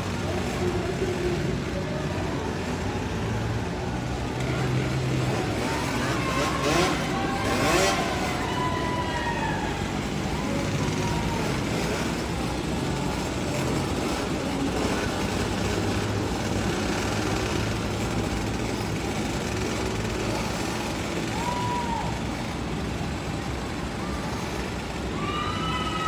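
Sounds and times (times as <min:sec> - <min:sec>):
atv engines revving: 0:00.0 - 0:26.0.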